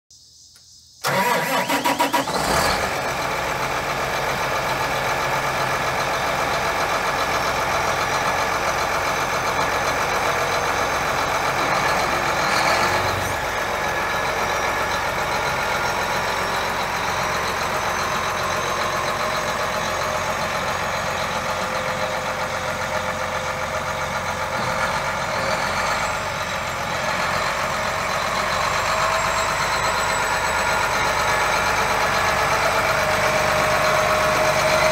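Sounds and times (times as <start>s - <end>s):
diesel tractor engine running: 1.0s - 34.9s.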